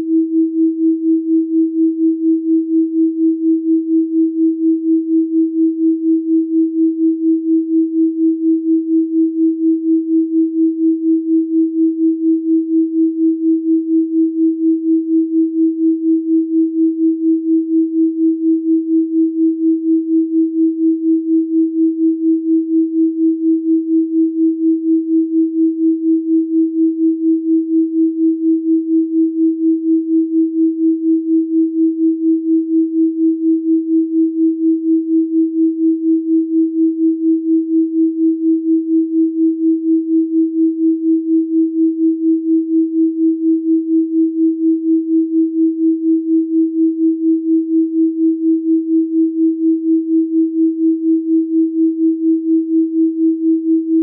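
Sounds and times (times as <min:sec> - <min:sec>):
pulsing sine tone: 0:00.0 - 0:54.0.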